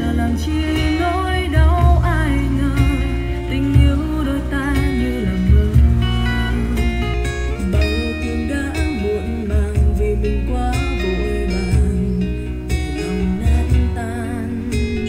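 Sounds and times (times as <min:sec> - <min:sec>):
song with guitar and bass beat: 0:00.0 - 0:15.0.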